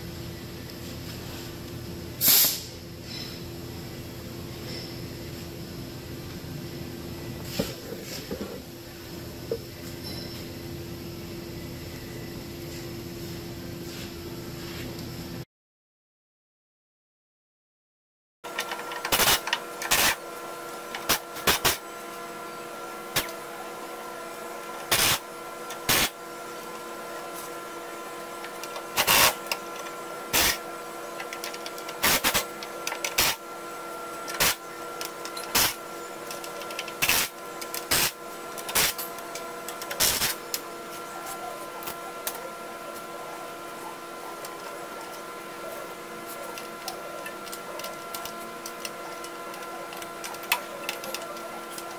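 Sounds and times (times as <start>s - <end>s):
steady shop hum: 0.0s - 15.4s, 18.4s - 51.9s.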